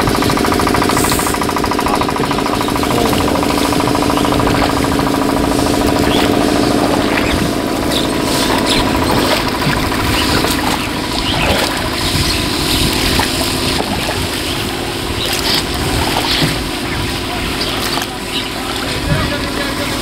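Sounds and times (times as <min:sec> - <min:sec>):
noisy water wash: 0:00.0 - 0:20.0
steady hum: 0:00.0 - 0:20.0
water sloshing around boat: 0:00.0 - 0:20.0.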